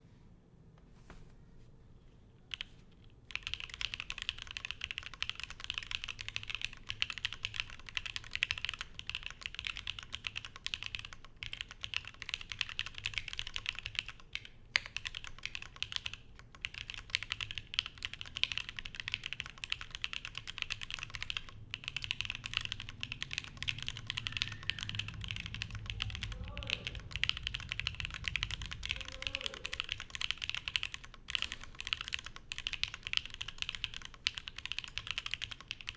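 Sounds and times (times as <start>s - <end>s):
mechanical keyboard typing: 2.5s - 2.7s, 3.3s - 35.9s.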